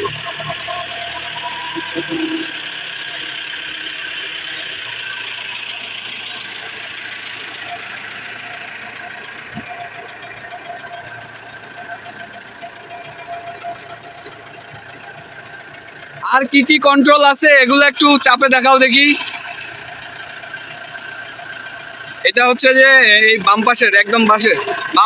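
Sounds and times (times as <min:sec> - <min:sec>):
road roller diesel engine: 0:00.0 - 0:25.0.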